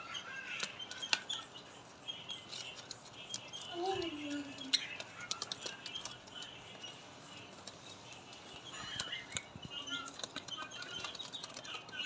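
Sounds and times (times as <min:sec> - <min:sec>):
parrots chirping: 0:00.0 - 0:12.0.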